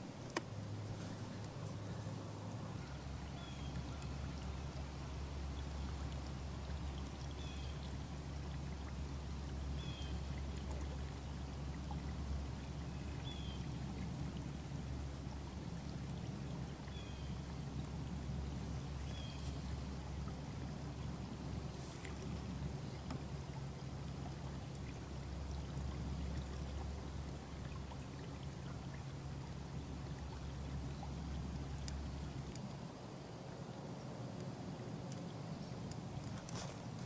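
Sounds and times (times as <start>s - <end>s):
trolling motor hum: 0.0s - 37.0s
water rushing along boat hull: 0.0s - 37.0s.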